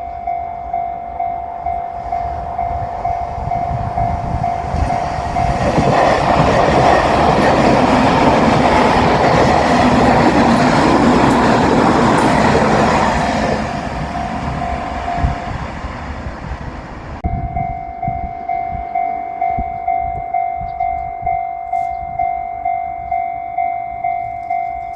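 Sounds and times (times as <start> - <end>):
crossing warning bell ringing: 0.0 - 24.9
electric train passing: 0.0 - 24.9
wheels clacking on rail joints: 1.7 - 17.0, 18.5 - 24.9.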